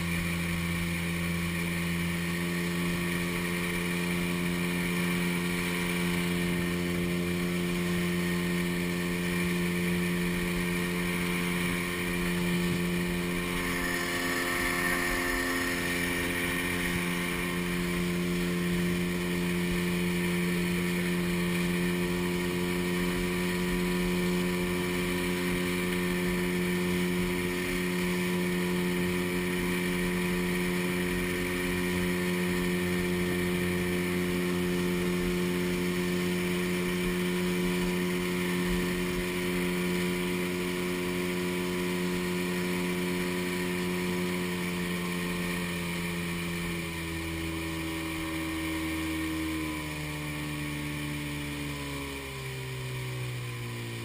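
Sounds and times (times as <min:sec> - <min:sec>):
outboard motor running: 0:00.0 - 0:54.0
water rushing past hull: 0:00.0 - 0:54.0.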